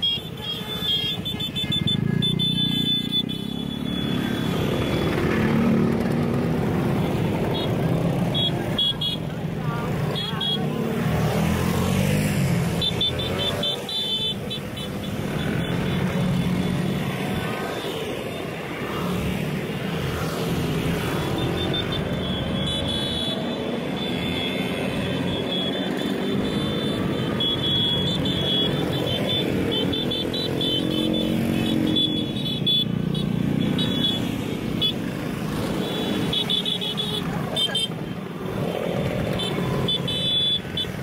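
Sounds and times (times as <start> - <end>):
scooter engines revving: 0.0 - 41.0.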